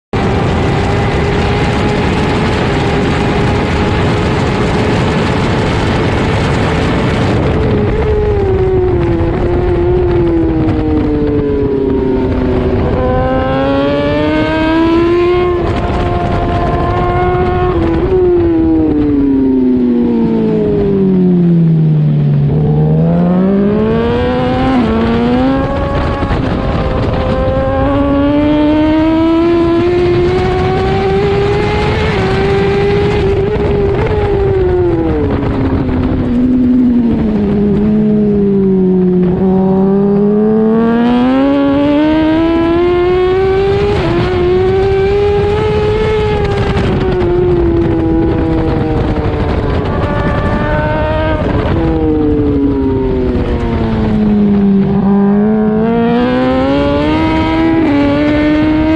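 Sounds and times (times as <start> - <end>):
motorcycle engine revving: 0.2 - 58.9.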